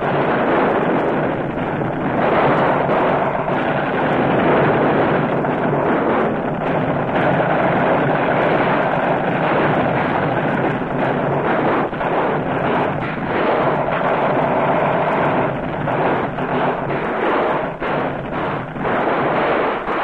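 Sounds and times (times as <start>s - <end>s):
muffled roar of combat noise: 0.0s - 20.0s.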